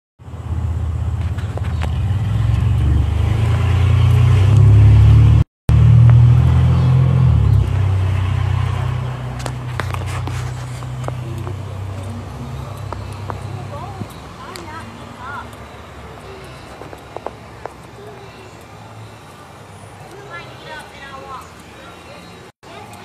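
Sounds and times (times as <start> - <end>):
vehicle engine rumbling: 0.2 - 23.0.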